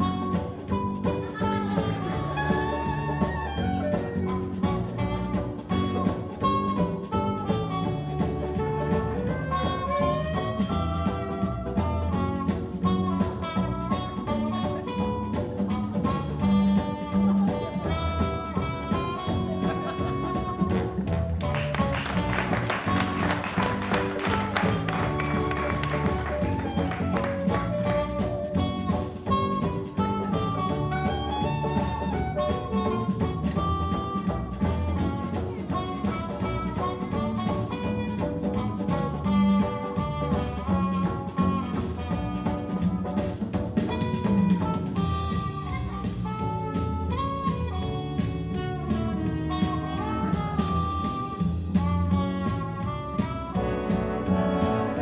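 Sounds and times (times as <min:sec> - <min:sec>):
bass: 0:00.0 - 0:55.0
drum kit: 0:00.0 - 0:55.0
jazz music: 0:00.0 - 0:55.0.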